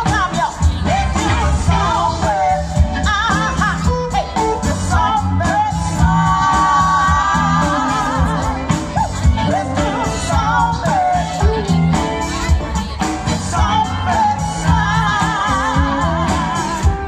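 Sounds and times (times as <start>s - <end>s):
live blues band: 0.0s - 17.0s
person singing with vibrato: 0.0s - 17.0s.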